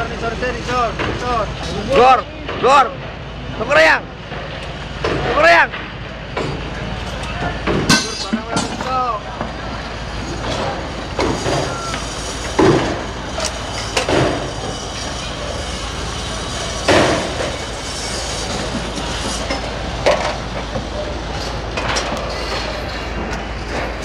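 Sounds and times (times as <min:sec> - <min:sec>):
mechanical background noise: 0:00.0 - 0:24.0
sharp knocks and bangs: 0:04.2 - 0:24.0.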